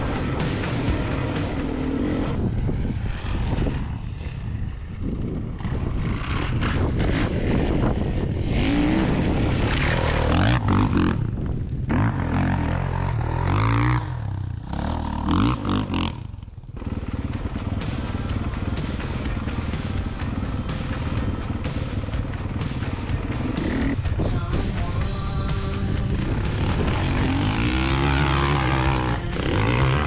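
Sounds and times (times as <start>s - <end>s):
dirt bike engine revving: 0.0s - 2.4s, 5.6s - 30.0s.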